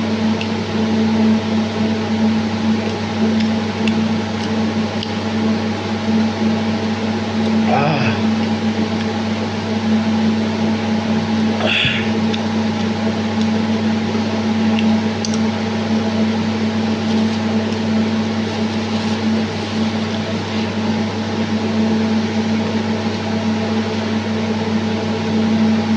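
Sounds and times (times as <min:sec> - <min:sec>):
steady mechanical hum with hiss: 0:00.0 - 0:25.9.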